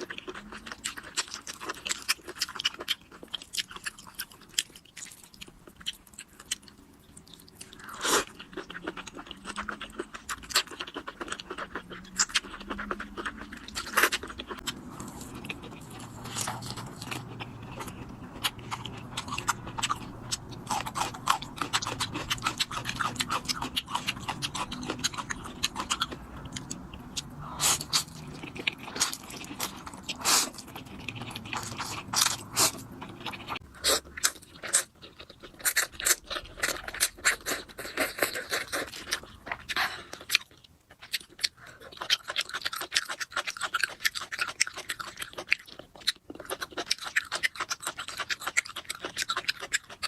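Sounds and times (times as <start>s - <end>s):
wet chewing and mouth smacks: 0.0s - 50.0s.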